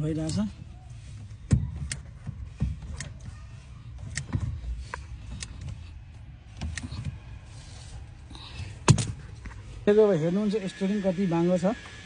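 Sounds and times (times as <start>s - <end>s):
low background rumble: 0.0s - 10.4s.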